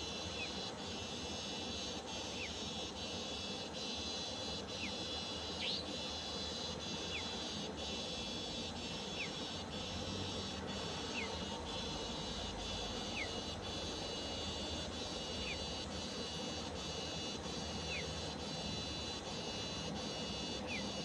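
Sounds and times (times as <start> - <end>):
shrill insect chorus: 0.0 - 21.0.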